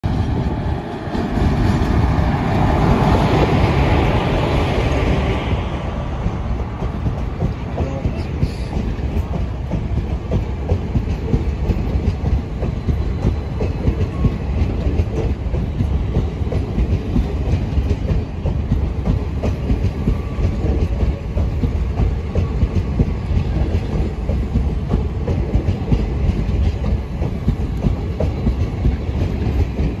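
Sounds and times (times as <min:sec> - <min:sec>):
train coaches rumbling past: 0:00.0 - 0:30.0.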